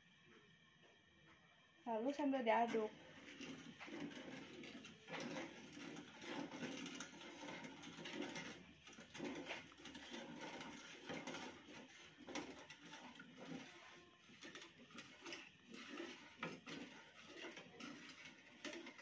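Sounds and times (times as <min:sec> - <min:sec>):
wooden spoon stirring in saucepan: 0:01.9 - 0:19.0.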